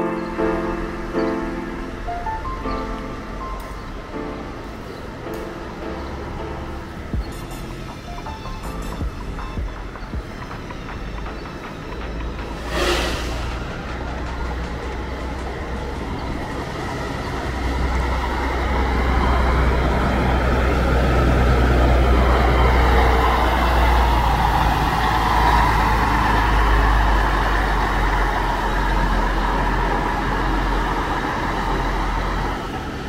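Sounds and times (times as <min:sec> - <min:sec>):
coach engine rumble: 0:00.0 - 0:33.0
road noise: 0:00.0 - 0:33.0.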